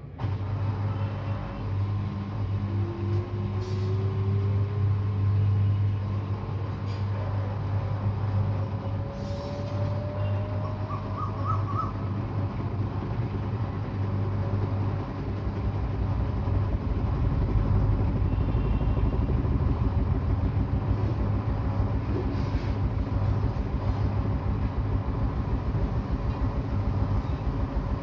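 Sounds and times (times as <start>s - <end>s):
washing machine spinning: 0.0s - 9.2s, 10.0s - 28.0s.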